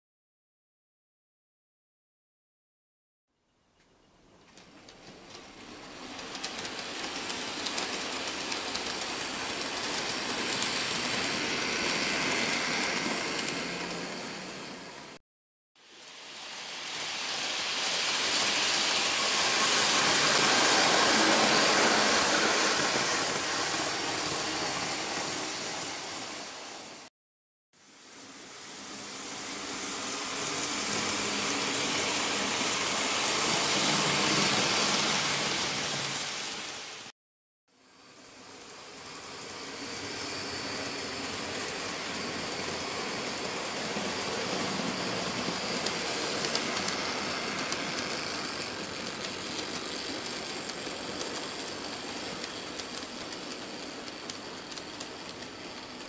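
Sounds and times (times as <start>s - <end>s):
model train whirring on track: 4.3s - 15.2s, 15.8s - 27.1s, 27.8s - 37.1s, 37.7s - 56.0s.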